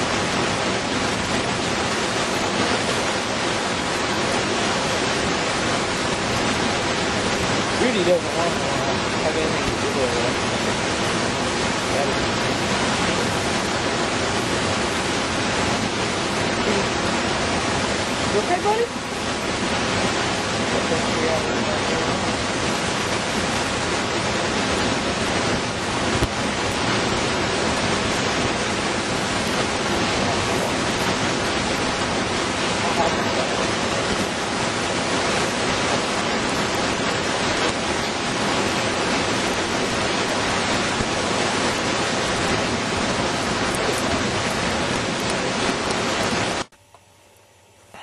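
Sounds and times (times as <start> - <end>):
loud rushing noise: 0.0 - 46.7.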